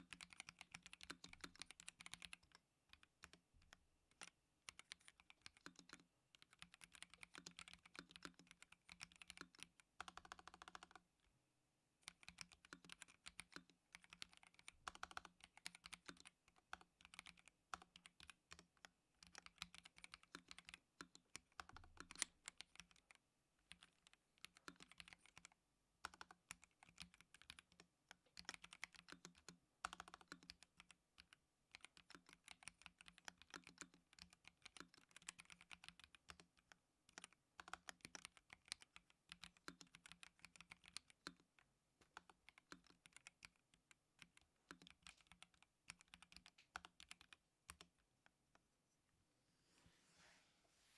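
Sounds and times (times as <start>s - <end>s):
fast mechanical keyboard typing: 0.0s - 11.0s, 12.0s - 41.4s, 42.0s - 47.9s.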